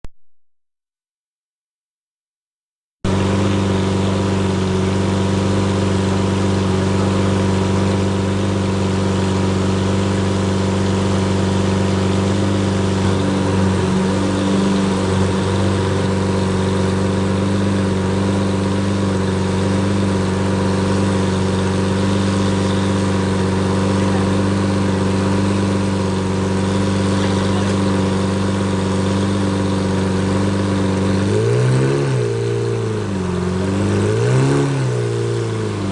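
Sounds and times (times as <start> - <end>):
car engine idling: 3.0 - 35.9
engine revving: 3.0 - 35.9.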